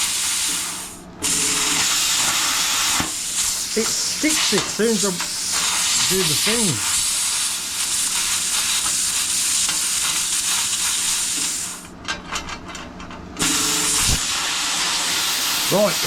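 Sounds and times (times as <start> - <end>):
plasma cutter arc hissing: 0.0 - 11.9, 13.4 - 16.0.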